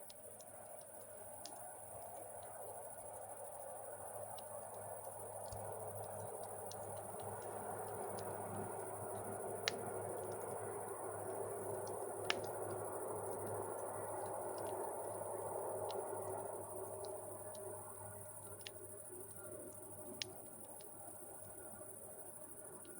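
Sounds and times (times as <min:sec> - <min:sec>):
campfire crackling: 0:00.0 - 0:22.9.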